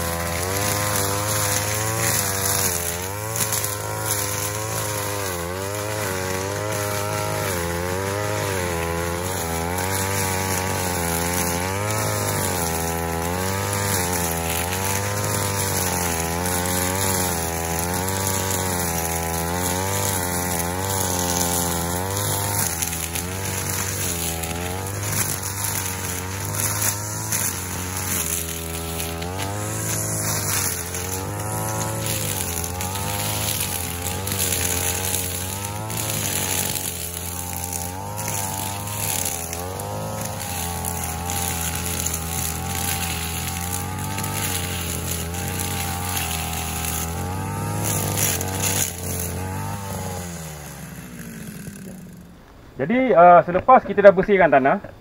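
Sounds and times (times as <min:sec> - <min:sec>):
brush cutter engine running: 0:00.0 - 0:54.8.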